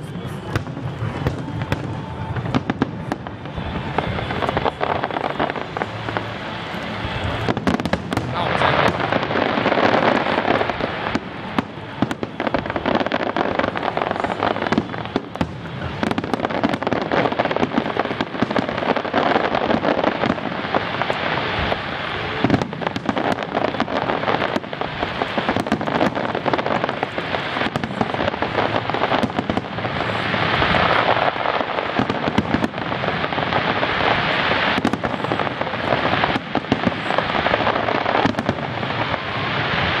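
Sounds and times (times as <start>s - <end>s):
crackle of bursting stars: 0.0s - 40.0s.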